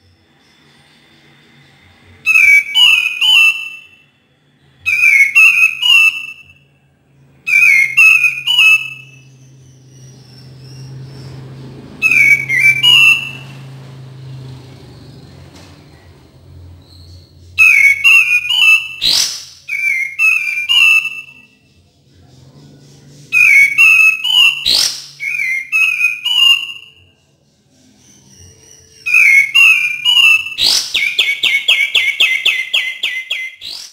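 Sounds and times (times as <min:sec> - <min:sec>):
bird whistled song: 0:00.0 - 0:33.9.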